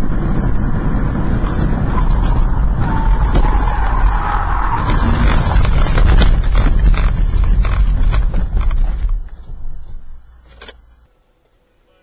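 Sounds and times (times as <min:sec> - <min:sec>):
car rumbling over rough ground: 0:00.0 - 0:10.4.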